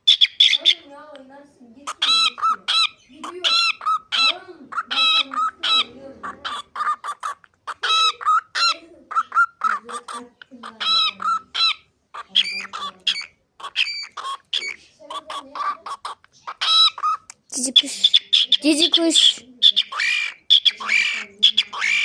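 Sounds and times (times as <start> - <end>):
cockatiel chirping: 0.0 - 0.9, 1.8 - 22.0.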